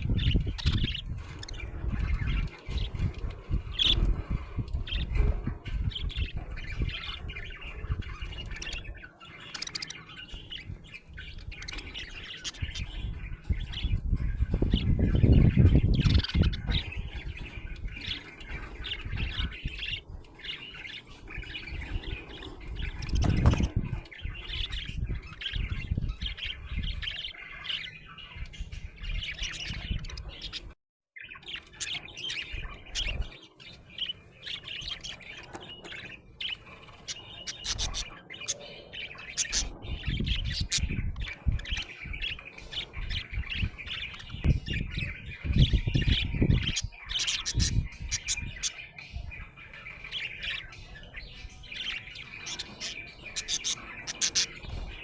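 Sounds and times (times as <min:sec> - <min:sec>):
budgerigar chirping: 0:00.0 - 0:28.5, 0:29.2 - 0:55.0.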